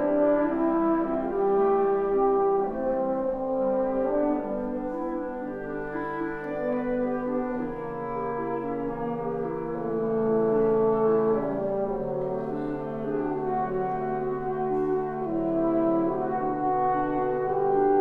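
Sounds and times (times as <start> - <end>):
clarinet: 0.0 - 18.0
french horn: 0.0 - 18.0.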